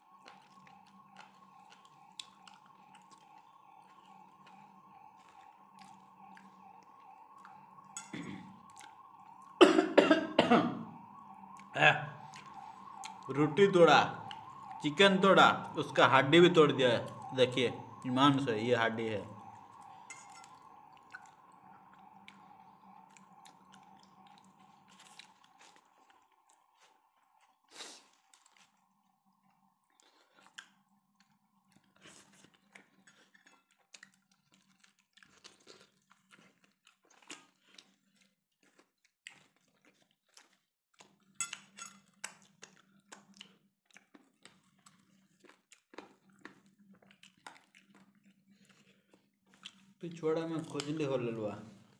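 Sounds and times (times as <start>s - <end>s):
chewing and crunching: 0.0s - 9.9s, 11.0s - 51.9s.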